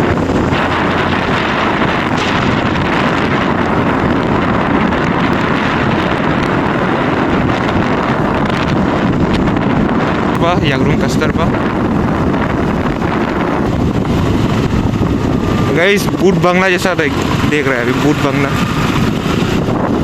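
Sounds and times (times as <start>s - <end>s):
road and engine noise: 0.0s - 20.0s
wind rushing over microphone: 0.0s - 20.0s.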